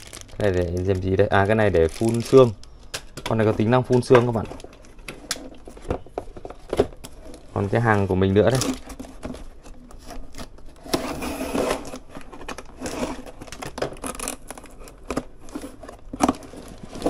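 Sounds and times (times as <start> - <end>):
packaging rustling and scraping: 0.0 - 17.0.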